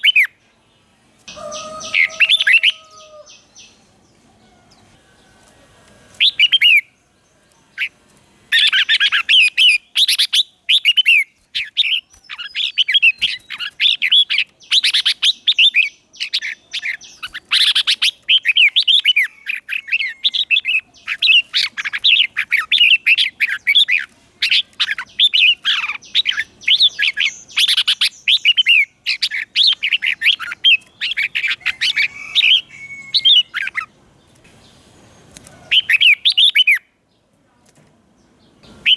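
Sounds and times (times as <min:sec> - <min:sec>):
bulbul singing: 0:00.0 - 0:00.4, 0:01.3 - 0:05.5, 0:06.1 - 0:36.9, 0:38.5 - 0:38.9.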